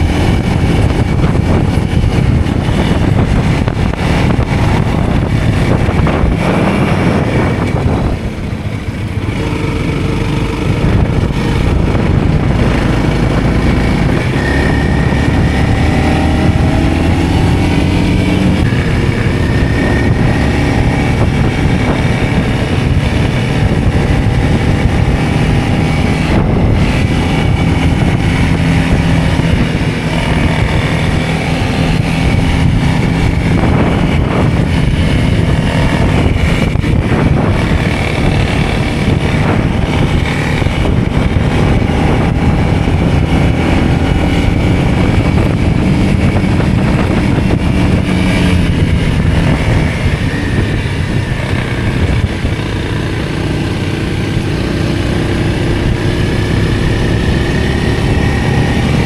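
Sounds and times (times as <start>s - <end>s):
vehicle engine running under load: 0.0s - 59.0s.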